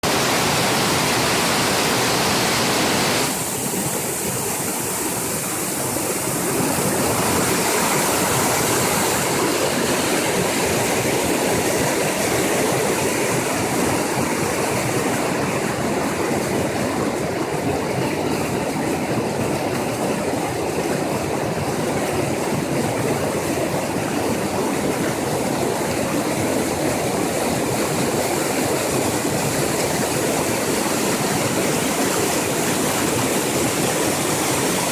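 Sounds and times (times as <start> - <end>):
water flowing: 0.0 - 34.9.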